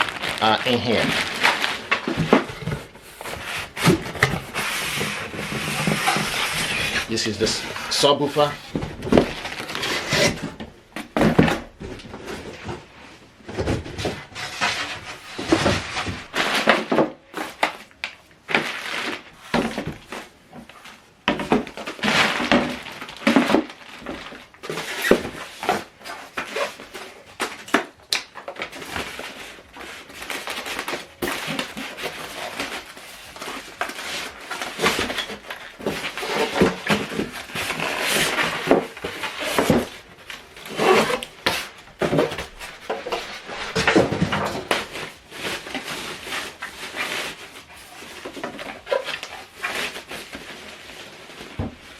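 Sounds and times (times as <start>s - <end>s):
cardboard rustling and scraping: 0.0s - 51.9s.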